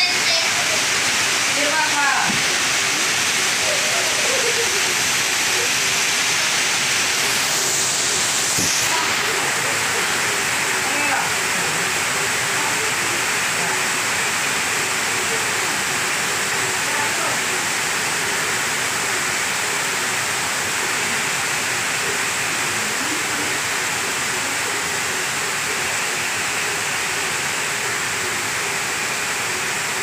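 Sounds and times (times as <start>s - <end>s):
faint voices: 0.0s - 19.6s, 21.9s - 28.6s
heavy rain pouring: 0.0s - 30.0s.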